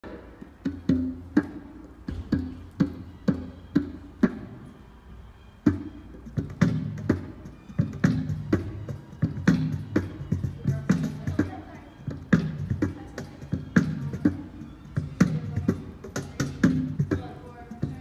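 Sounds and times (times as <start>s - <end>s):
dance music with percussive beats: 0.0s - 18.0s.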